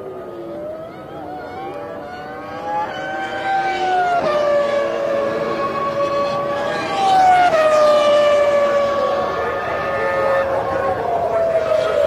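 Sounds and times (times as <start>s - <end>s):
racing engine screaming at high revs: 0.4s - 12.0s.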